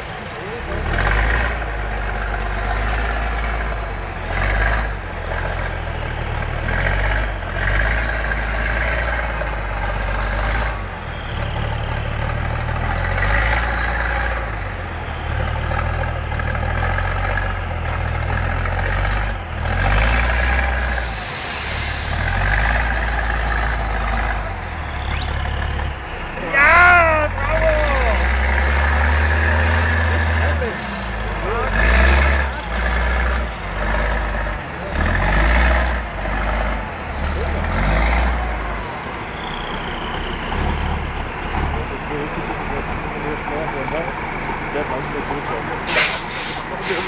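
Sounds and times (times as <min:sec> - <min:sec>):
truck engine under load: 0:00.0 - 0:47.0.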